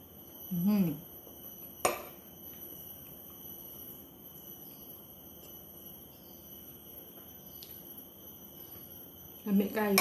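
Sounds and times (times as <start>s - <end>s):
faint high-pitched whine: 0.0s - 10.0s.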